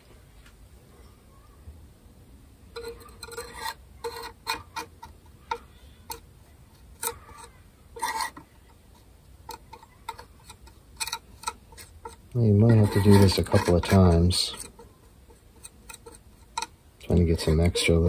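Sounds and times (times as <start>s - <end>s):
metal blade scraping wood: 2.7s - 18.0s.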